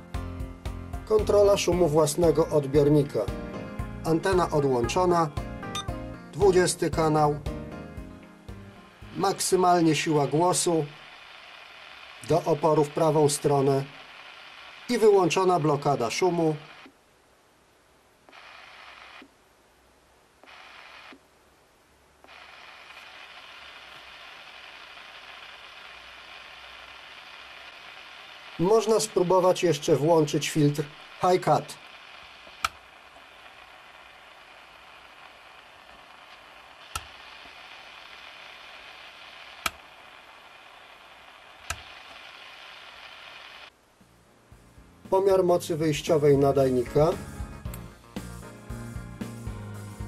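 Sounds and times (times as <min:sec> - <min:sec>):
radio receiver hiss: 0:00.0 - 0:50.0.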